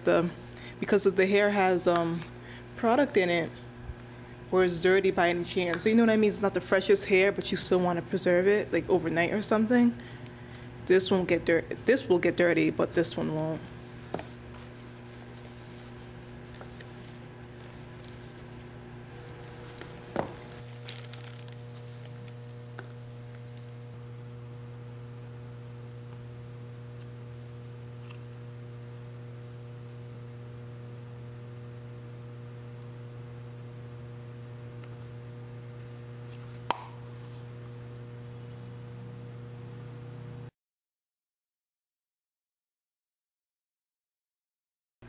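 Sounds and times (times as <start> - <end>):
electrical mains hum: 0.0 - 40.5.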